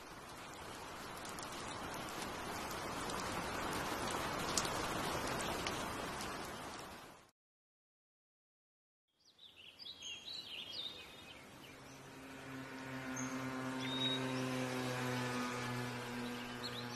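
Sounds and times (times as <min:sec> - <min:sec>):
steady rain patter: 0:00.0 - 0:07.3, 0:09.4 - 0:16.9.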